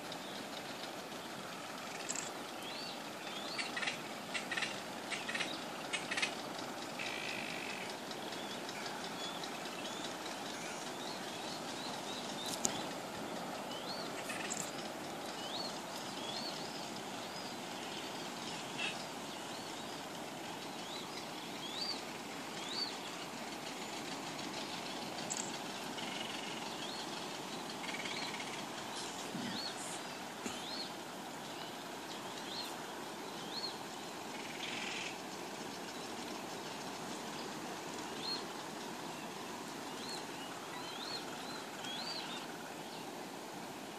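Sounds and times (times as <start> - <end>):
birds chirping: 0.0 - 43.3.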